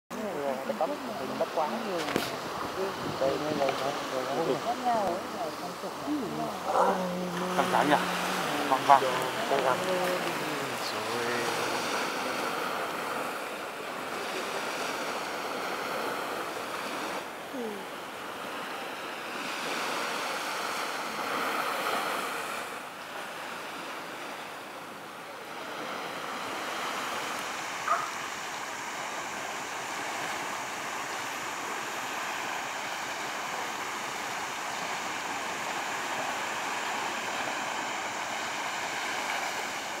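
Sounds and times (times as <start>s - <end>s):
small waves washing onto sand: 0.1s - 40.0s.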